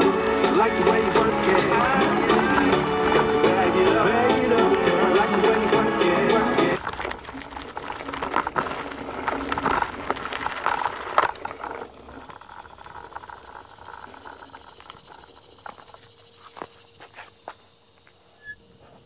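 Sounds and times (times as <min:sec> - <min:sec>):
electric scooter rolling: 0:00.0 - 0:19.0.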